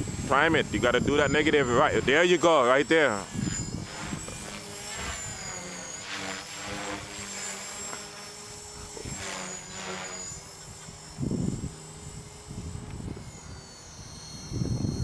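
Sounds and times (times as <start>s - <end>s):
low hum: 0.0s - 15.0s
rc helicopter rotor whine: 0.0s - 15.0s.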